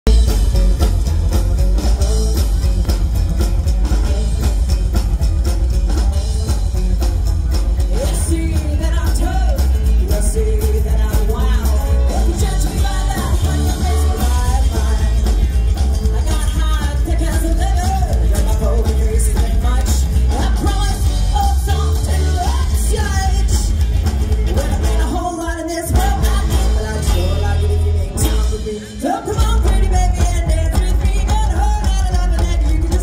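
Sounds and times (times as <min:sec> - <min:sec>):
rockabilly band playing live: 0:00.0 - 0:33.0
person singing: 0:00.1 - 0:33.0.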